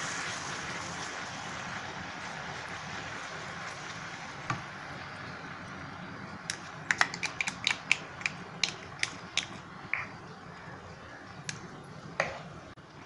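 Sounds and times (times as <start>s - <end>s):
caramel sizzling: 0.0s - 13.0s.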